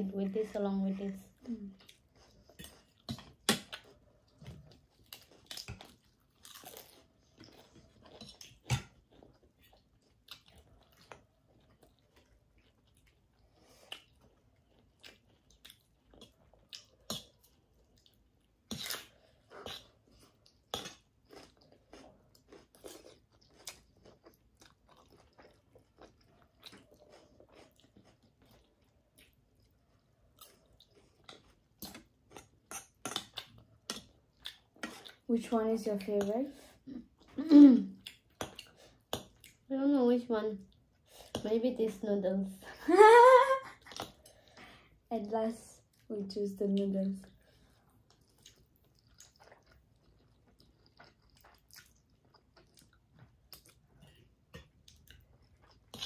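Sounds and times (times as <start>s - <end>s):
chewing and crunching food: 0.0s - 42.8s, 43.6s - 56.0s.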